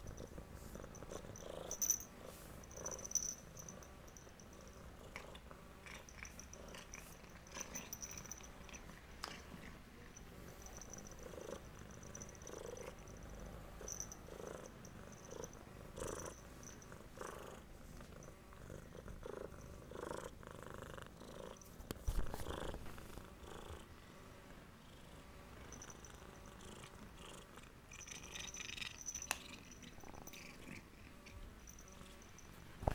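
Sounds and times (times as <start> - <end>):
cat purring: 0.0 - 32.9.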